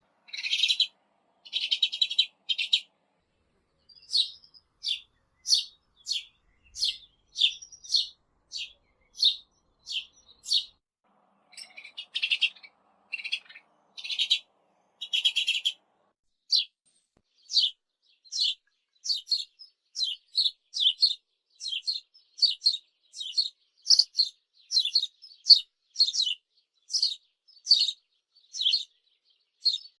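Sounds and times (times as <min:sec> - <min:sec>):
sparrow chirping: 0:00.2 - 0:03.0, 0:03.7 - 0:30.0.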